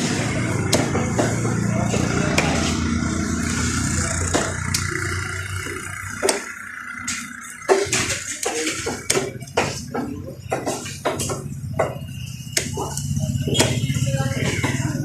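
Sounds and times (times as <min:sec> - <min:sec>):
sharp knocks: 0:00.0 - 0:14.9
engine humming: 0:00.0 - 0:15.0.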